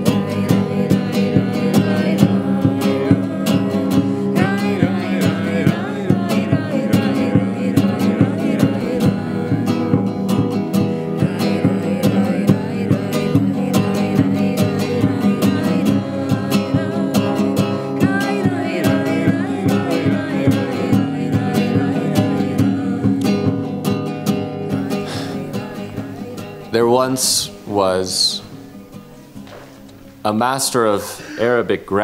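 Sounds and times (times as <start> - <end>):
person singing: 0.0 - 10.5, 11.2 - 23.6, 24.7 - 28.5
strummed acoustic guitar: 0.0 - 31.6.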